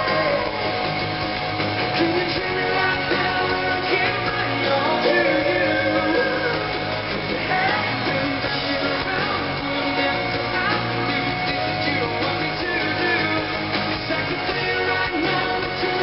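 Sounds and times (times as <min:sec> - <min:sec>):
man singing: 0:00.0 - 0:00.8, 0:01.9 - 0:16.0
live rock band: 0:00.0 - 0:16.0.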